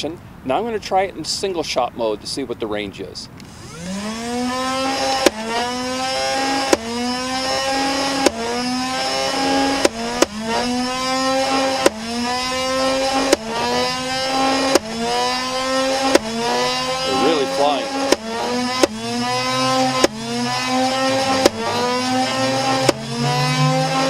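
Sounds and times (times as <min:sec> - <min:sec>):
flywheel motor whining: 0:03.4 - 0:24.0.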